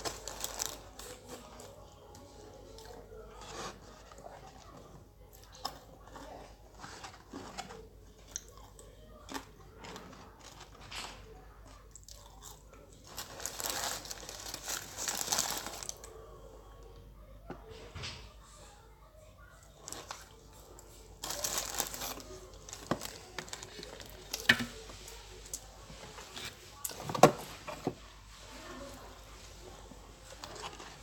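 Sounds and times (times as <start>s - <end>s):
chewing and crunching food: 0.0s - 17.0s, 18.0s - 27.6s, 28.3s - 31.0s.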